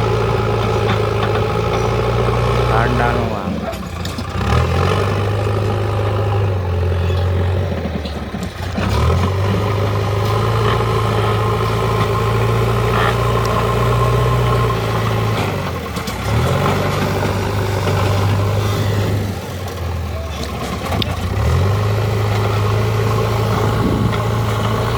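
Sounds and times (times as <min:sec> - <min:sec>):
diesel engine under load: 0:00.0 - 0:24.9.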